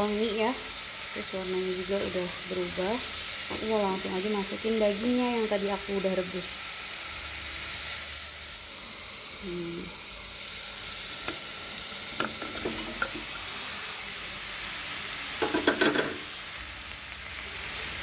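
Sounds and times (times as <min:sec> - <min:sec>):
spice paste sizzling in a pot: 0:00.0 - 0:18.0.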